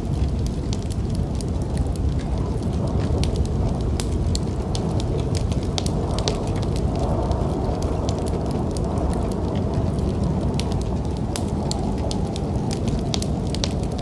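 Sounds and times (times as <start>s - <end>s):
low rumble of storm wind: 0.0s - 14.0s
wood fire crackling: 0.0s - 14.0s.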